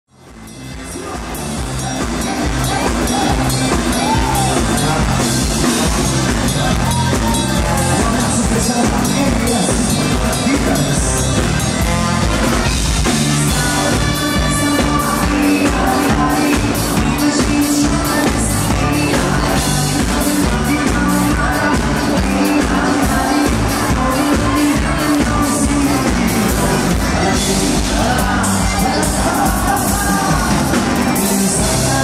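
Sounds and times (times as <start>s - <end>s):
band music with drum beat: 0.1s - 32.0s
person singing: 0.6s - 32.0s.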